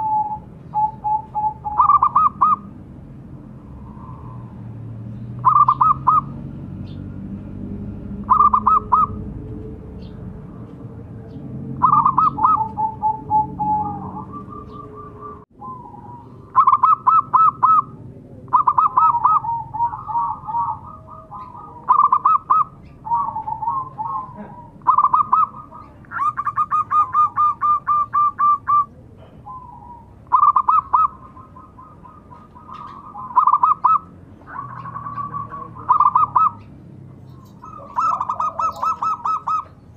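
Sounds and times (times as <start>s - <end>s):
dove cooing: 0.0s - 2.8s, 3.5s - 6.6s, 8.0s - 39.9s.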